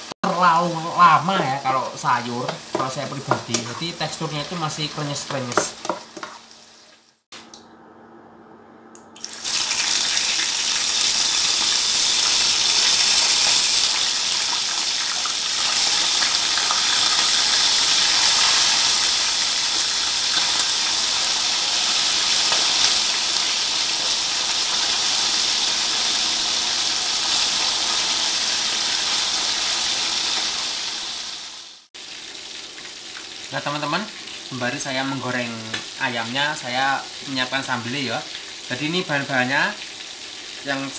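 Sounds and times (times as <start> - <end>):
chicken sizzling in hot oil: 0.0 - 7.3, 9.2 - 40.9.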